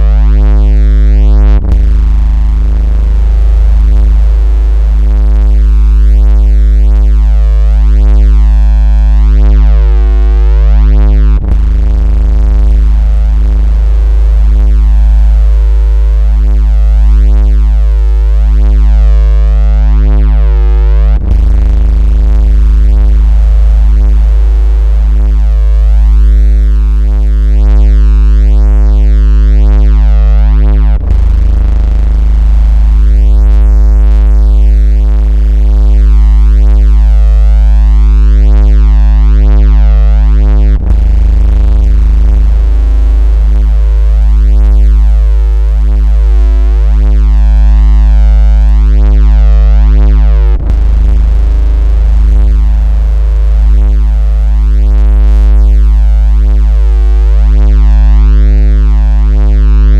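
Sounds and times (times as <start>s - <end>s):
buzzing electronic bass tone: 0.0s - 59.9s.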